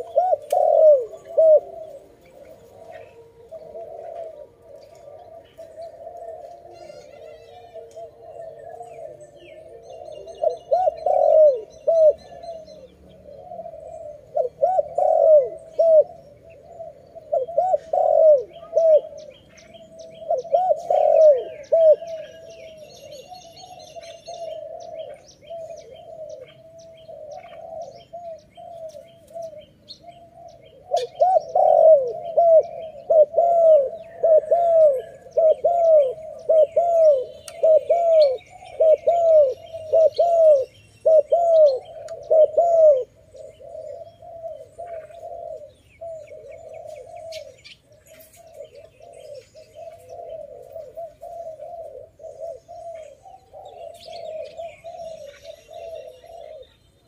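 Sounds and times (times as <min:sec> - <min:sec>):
dove cooing: 0:00.0 - 0:57.0
small birds chirping: 0:00.0 - 0:57.0.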